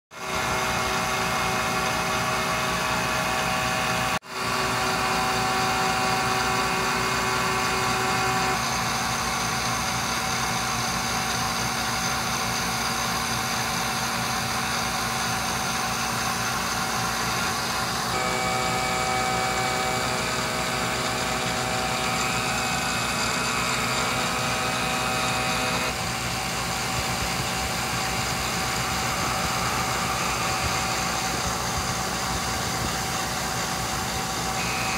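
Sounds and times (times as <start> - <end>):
milling machine humming: 0.2 - 34.9.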